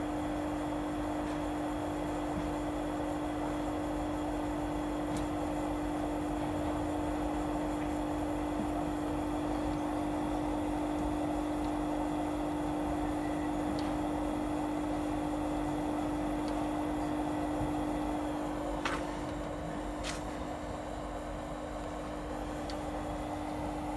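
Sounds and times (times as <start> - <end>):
heater humming with air rush: 0.0 - 23.9.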